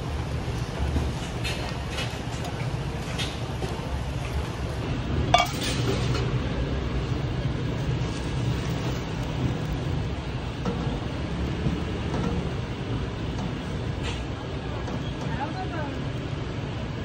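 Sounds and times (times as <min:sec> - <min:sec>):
street background rumble: 0:00.0 - 0:17.0.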